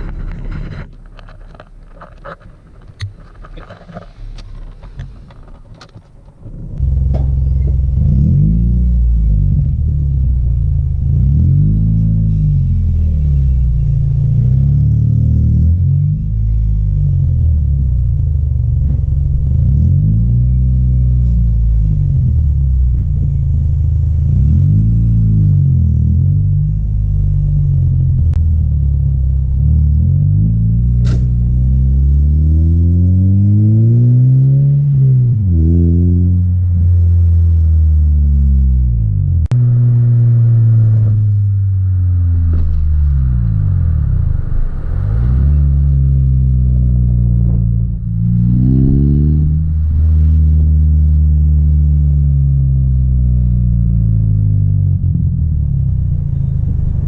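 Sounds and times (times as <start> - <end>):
car engine revving: 3.5 - 57.0.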